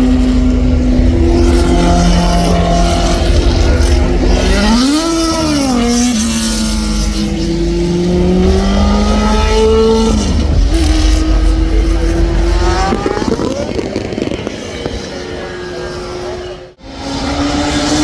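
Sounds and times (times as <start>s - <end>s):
racing car engine revving: 0.0s - 18.0s.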